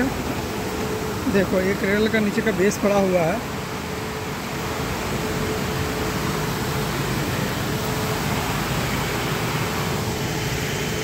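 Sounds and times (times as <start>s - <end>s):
faint machine hum: 0.0s - 11.0s.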